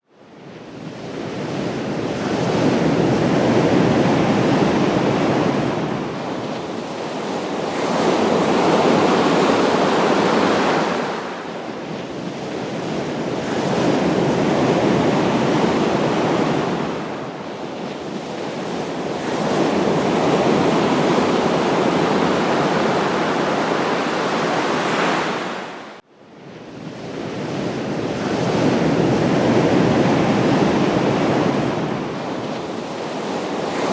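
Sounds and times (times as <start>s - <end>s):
ocean surf breaking: 0.3s - 33.9s.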